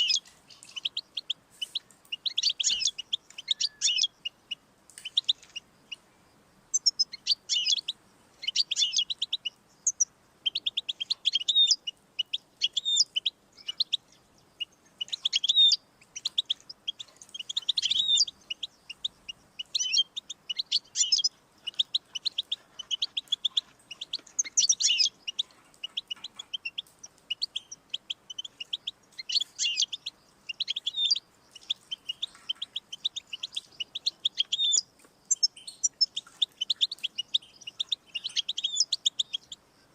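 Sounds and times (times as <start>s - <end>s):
goldfinch twittering: 0.0s - 5.6s, 6.7s - 39.9s.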